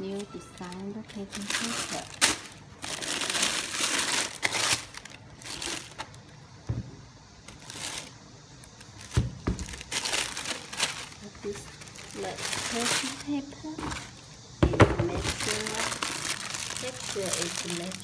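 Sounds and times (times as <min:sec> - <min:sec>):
tissue paper crinkling: 0:00.0 - 0:06.4, 0:07.5 - 0:14.2, 0:15.2 - 0:18.0.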